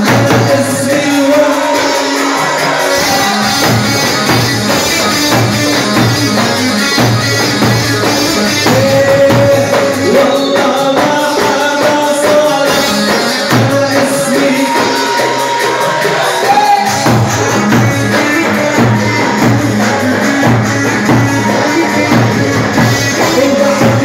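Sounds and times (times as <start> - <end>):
live band music: 0.0 - 24.0
percussion beat: 0.0 - 24.0.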